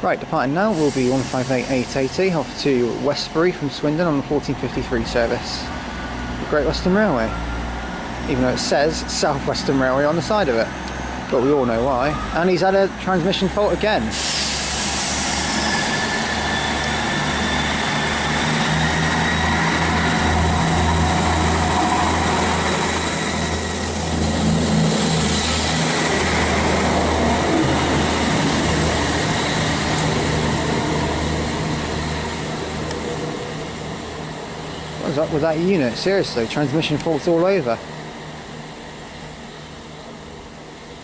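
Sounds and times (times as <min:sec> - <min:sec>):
diesel train engines droning: 0:00.0 - 0:41.0
rail noise: 0:00.0 - 0:41.0.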